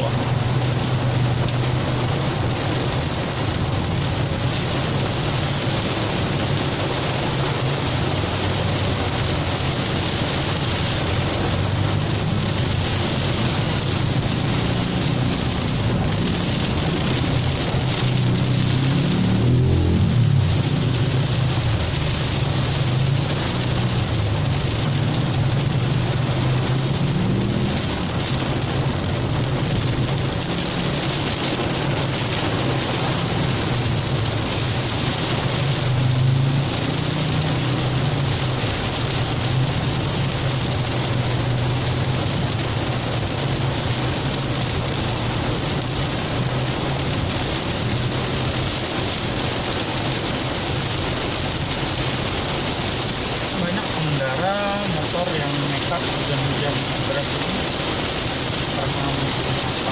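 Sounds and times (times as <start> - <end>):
heavy rain: 0.0 - 59.9
vehicle hum in traffic: 0.0 - 59.9.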